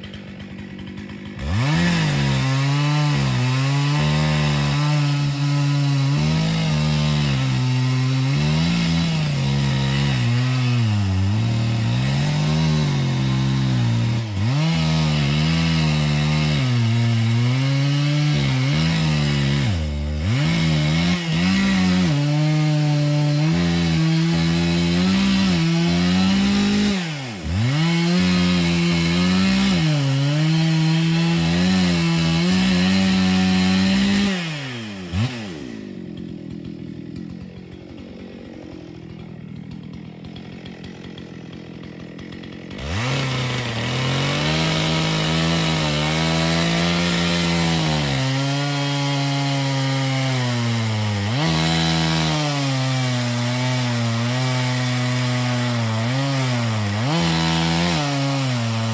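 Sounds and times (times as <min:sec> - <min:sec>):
chainsaw cutting wood: 0:00.0 - 0:58.9.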